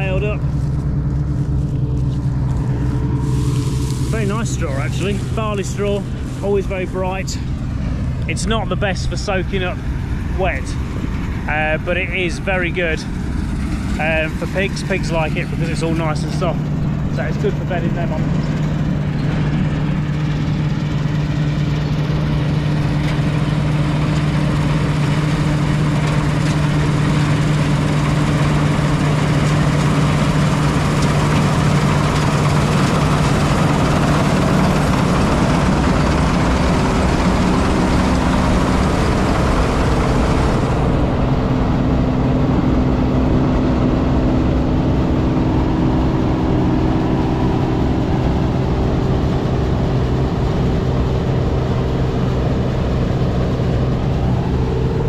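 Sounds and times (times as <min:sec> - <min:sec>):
combine harvester engine drone: 0:00.0 - 0:55.0
mechanical rush of threshing gear: 0:00.0 - 0:55.0.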